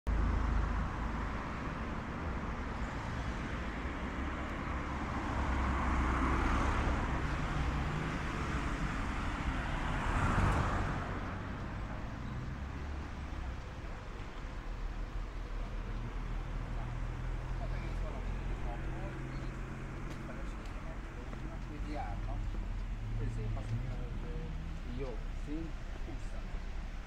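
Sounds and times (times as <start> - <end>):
cars passing by: 0.1 - 27.0
low traffic rumble: 0.1 - 27.0.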